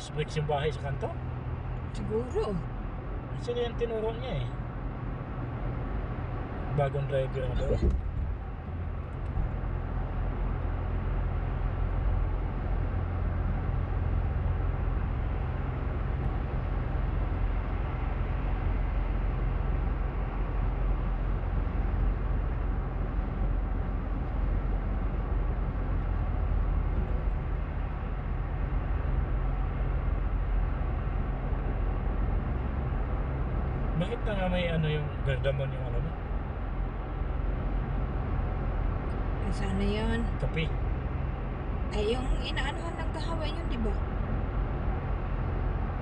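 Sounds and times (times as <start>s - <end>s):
engine and tyre rumble: 0.0s - 46.0s.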